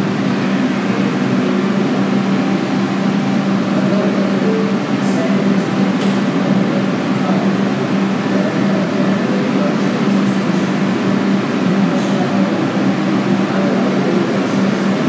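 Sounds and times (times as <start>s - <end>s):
subway car equipment hum: 0.0s - 15.0s.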